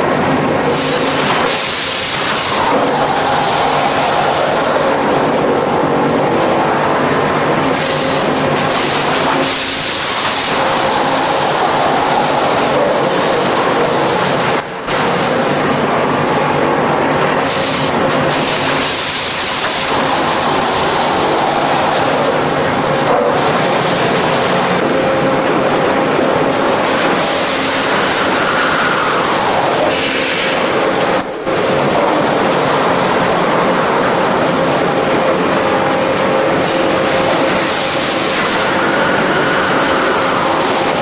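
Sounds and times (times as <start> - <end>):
conveyor machinery clatter and hiss: 0.0 - 41.0.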